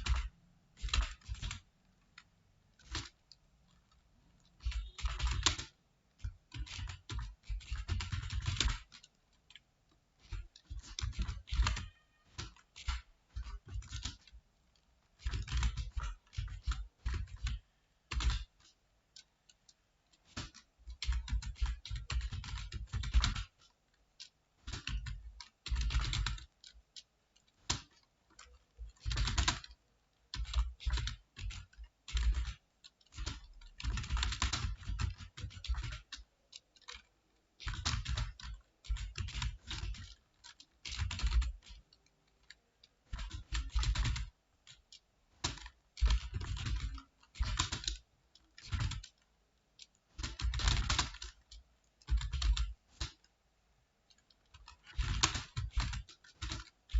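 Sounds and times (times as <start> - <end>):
computer keyboard typing: 0.0 - 53.4, 54.1 - 56.9.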